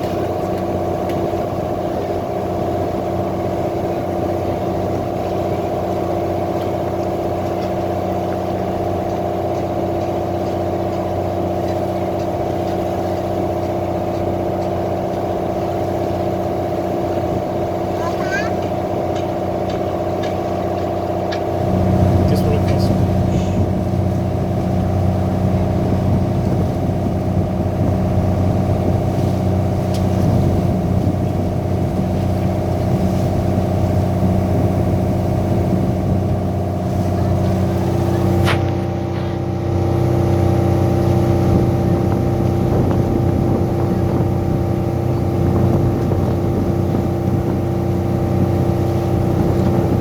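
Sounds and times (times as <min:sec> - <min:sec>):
boat engine humming: 0:00.0 - 0:50.0.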